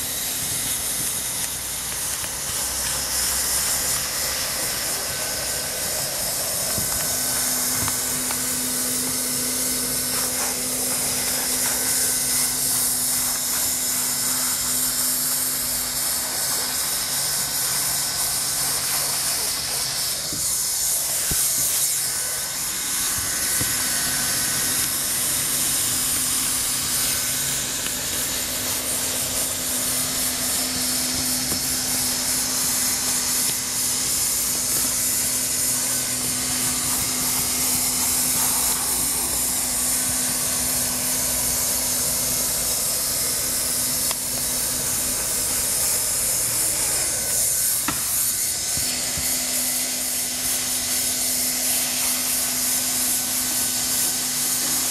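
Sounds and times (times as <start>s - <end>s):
hot air welder hissing: 0.0s - 54.9s
low blower hum: 0.0s - 54.9s.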